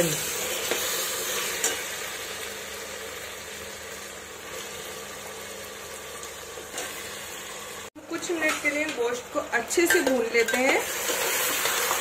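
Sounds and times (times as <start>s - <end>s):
onions and meat sizzling in oil: 0.0s - 12.0s.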